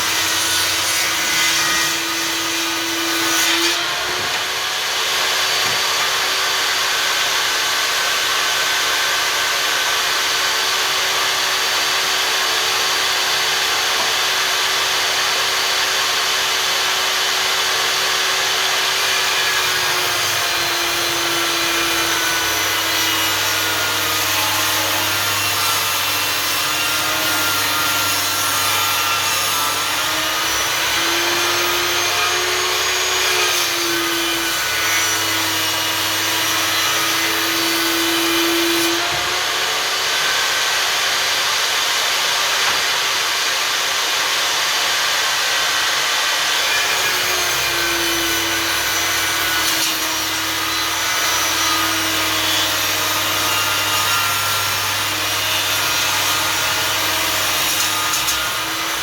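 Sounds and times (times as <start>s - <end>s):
table saw cutting wood: 0.0s - 59.0s.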